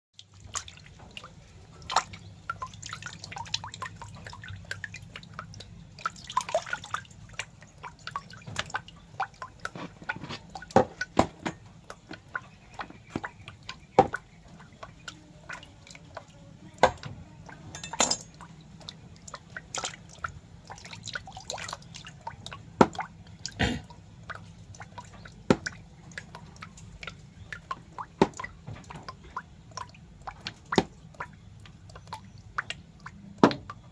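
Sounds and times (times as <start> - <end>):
low steady hum: 0.2 - 33.9
wet drip-like clicks: 0.2 - 33.9.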